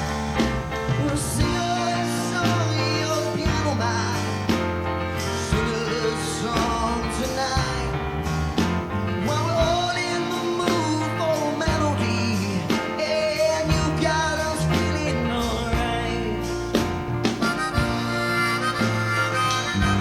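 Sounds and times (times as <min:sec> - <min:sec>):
pop-rock song with singing: 0:00.0 - 0:20.0.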